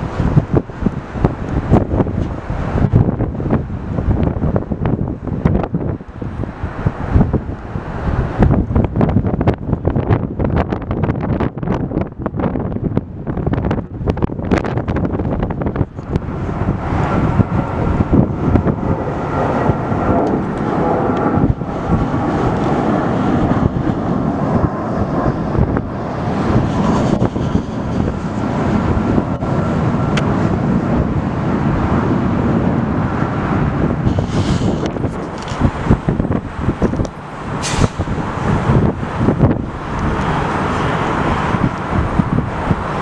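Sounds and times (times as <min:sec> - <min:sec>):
jet engines running: 0:00.0 - 0:43.0
wind on microphone: 0:00.0 - 0:43.0.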